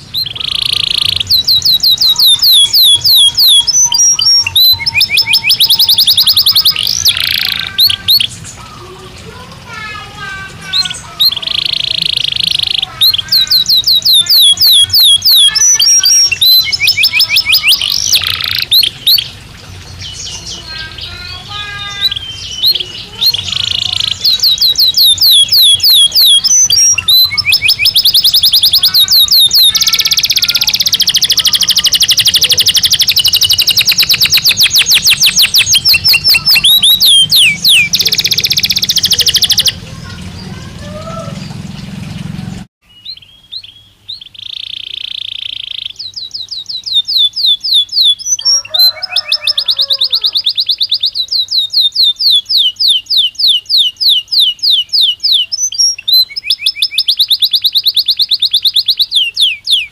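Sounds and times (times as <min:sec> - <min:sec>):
canary singing with trills: 0:00.0 - 0:59.9.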